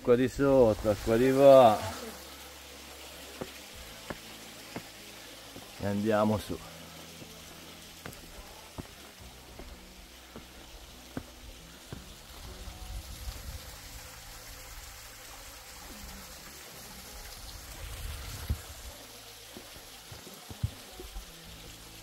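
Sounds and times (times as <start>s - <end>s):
stream water trickling: 0.1s - 22.0s.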